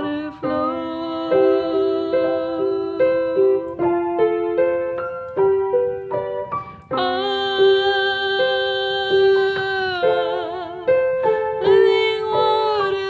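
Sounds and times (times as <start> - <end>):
gentle piano playing: 0.0 - 13.0.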